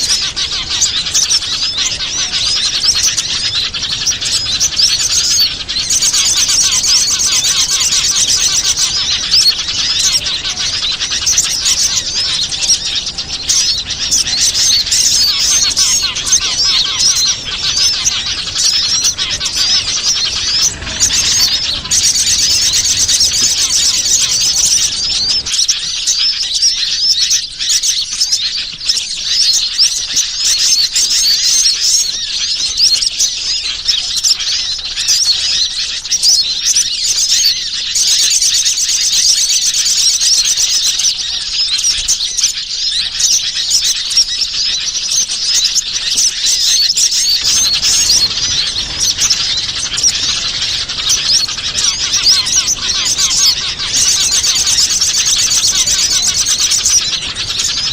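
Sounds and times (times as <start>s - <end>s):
many small birds chirping: 0.0s - 57.9s.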